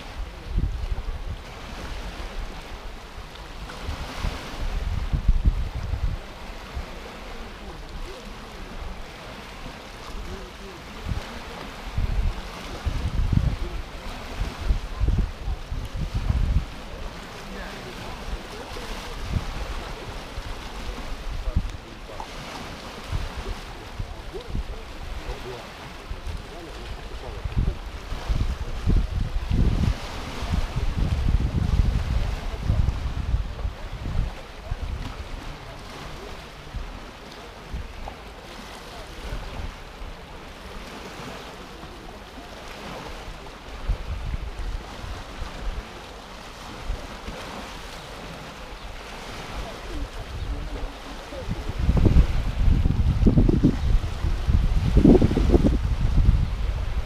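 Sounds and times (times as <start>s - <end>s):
wind buffeting microphone: 0.0s - 41.4s, 42.3s - 57.0s
low thumps of waves: 0.0s - 57.0s
small waves lapping on shore: 0.0s - 57.0s.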